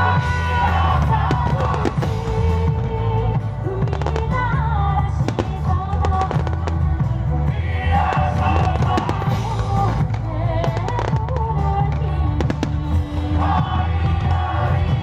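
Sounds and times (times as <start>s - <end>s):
fireworks banging and crackling: 0.0s - 15.0s
loud music with singing: 0.0s - 15.0s.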